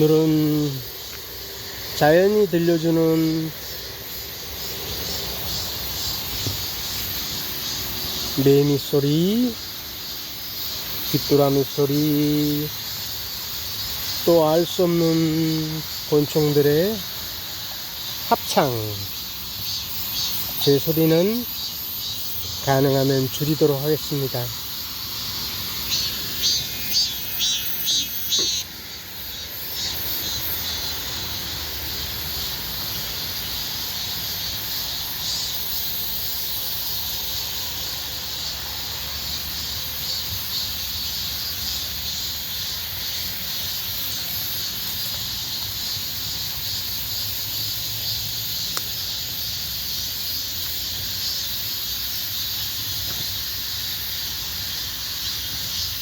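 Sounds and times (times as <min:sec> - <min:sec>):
crickets and cicadas droning: 0:00.0 - 0:56.0
insect pulsed calls: 0:00.0 - 0:56.0.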